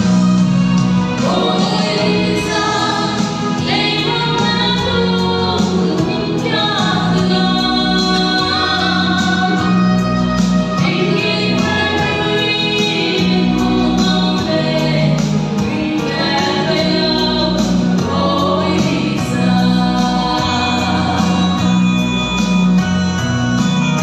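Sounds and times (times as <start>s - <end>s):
instrumental accompaniment with bass: 0.0s - 24.0s
women singing a duet: 1.1s - 22.1s.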